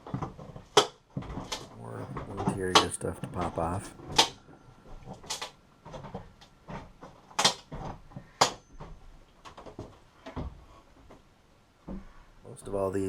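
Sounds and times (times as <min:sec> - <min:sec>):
panels cracking and snapping off: 0:00.0 - 0:11.3.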